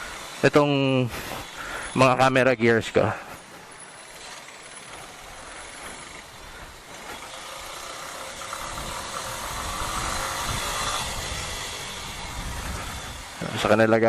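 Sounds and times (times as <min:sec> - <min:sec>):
motorcycle engine running: 0:00.0 - 0:02.4, 0:03.0 - 0:14.0
road and wind noise: 0:00.0 - 0:14.0.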